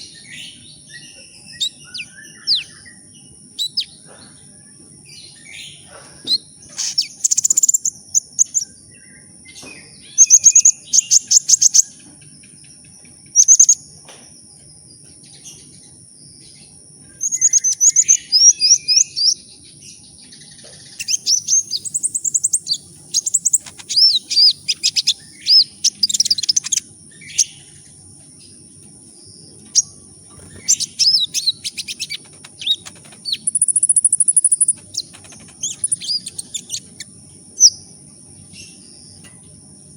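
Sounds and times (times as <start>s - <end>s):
sunbird chirping and trilling: 0.0s - 14.0s, 14.6s - 39.9s.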